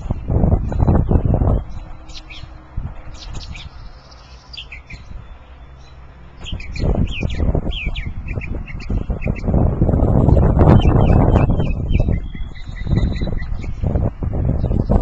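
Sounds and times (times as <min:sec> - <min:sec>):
small songbird chirping: 0:00.0 - 0:09.6, 0:10.2 - 0:15.0
wind rumble on microphone: 0:00.0 - 0:15.0.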